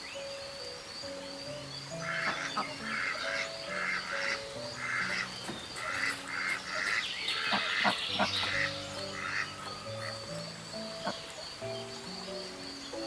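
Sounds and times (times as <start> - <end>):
music with long held notes: 0.0 - 13.0.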